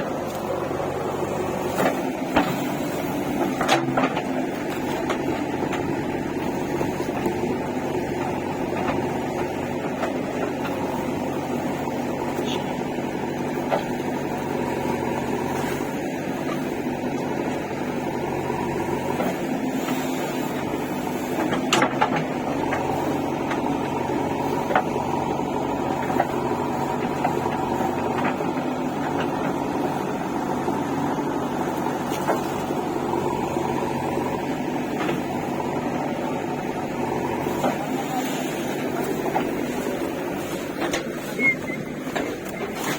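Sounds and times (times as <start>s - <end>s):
engine droning: 0.0s - 42.9s.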